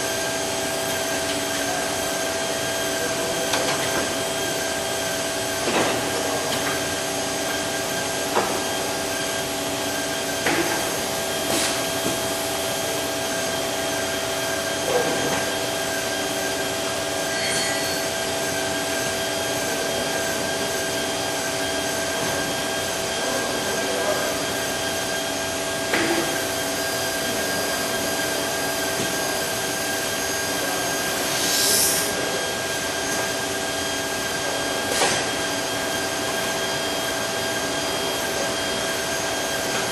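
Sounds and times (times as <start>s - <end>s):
surface grinder humming and whining: 0.0s - 39.9s.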